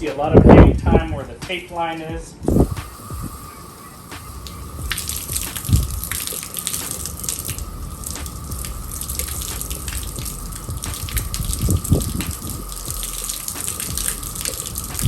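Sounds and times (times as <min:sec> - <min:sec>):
water spraying on glass: 0:01.5 - 0:15.0.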